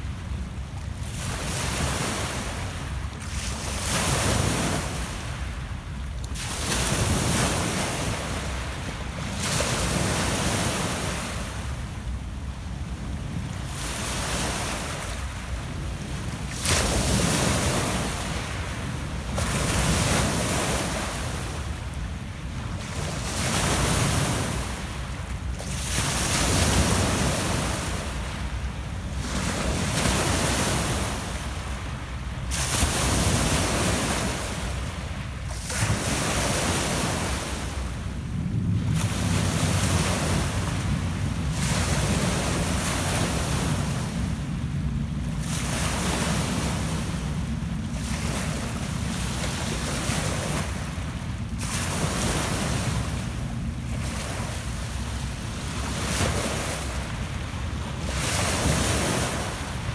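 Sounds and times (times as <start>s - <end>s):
wind rumble on microphone: 0.0s - 59.9s
waves washing up pebble shore: 0.9s - 5.7s, 6.3s - 59.9s.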